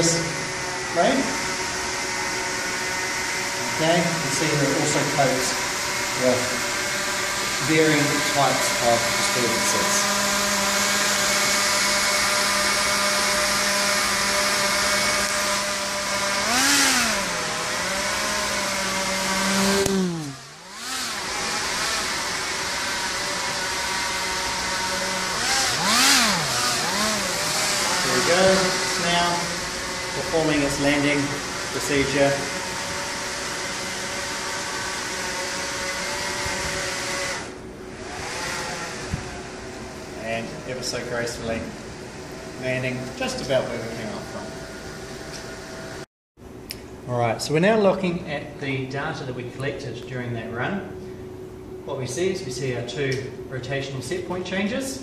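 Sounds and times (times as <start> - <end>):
propellers whining: 0.0 - 46.0.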